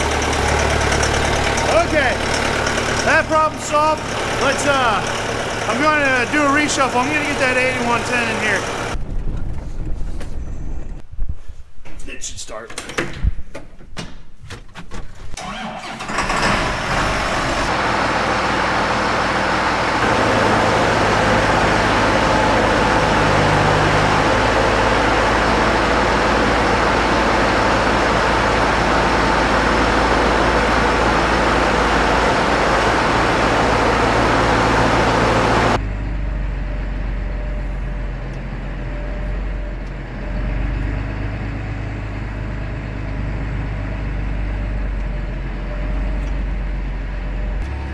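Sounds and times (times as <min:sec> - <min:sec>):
diesel engine cranking and running: 0:00.0 - 0:11.0, 0:15.3 - 0:47.9.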